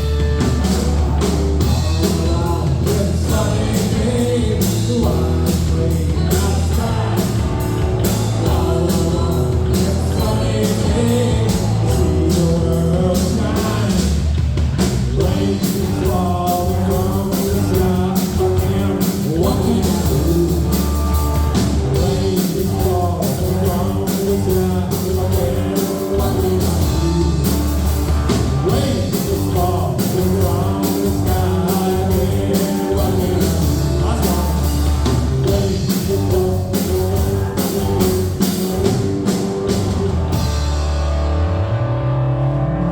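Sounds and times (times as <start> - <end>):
steady drum beat: 0.0 - 41.0
electric guitar: 0.0 - 42.9
person singing: 0.7 - 14.2, 15.1 - 28.0, 28.6 - 39.4.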